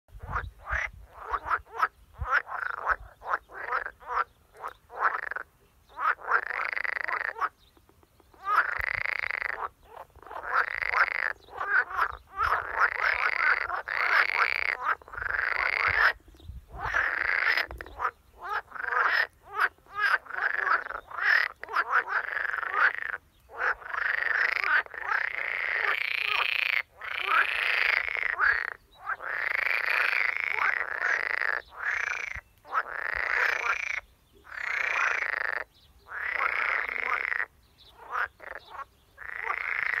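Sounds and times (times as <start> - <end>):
frogs croaking: 0.1 - 40.0.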